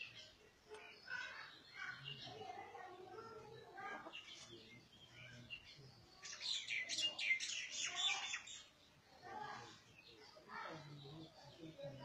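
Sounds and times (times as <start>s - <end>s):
faint voices: 0.0s - 12.0s
small birds chirping: 0.0s - 12.0s.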